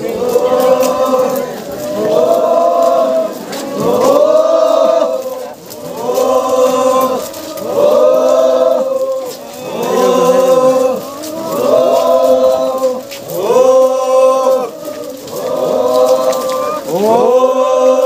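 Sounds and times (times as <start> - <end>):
marchers chanting in unison: 0.0 - 18.0.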